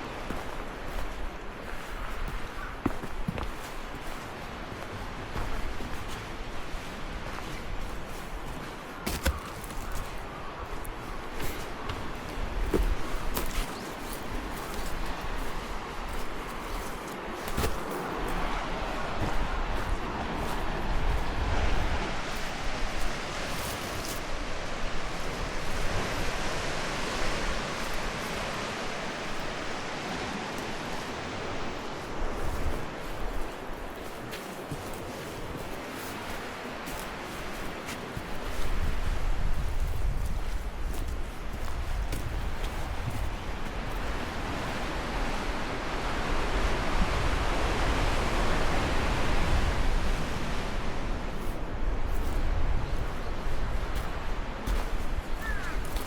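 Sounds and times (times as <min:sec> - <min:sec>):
ocean surf washing on rocks: 0:00.0 - 0:56.0
rushing water: 0:00.0 - 0:56.0.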